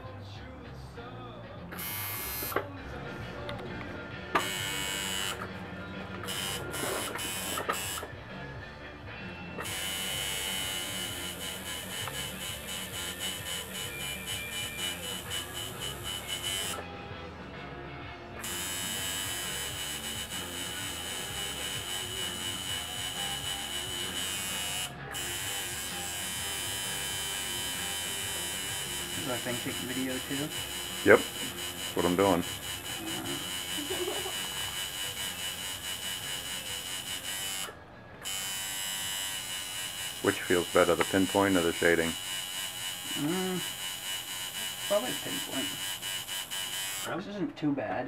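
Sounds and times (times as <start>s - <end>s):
faint background music: 0.0s - 48.0s
tattoo machine buzzing: 1.7s - 2.7s, 4.3s - 8.2s, 9.6s - 17.0s, 18.4s - 47.2s.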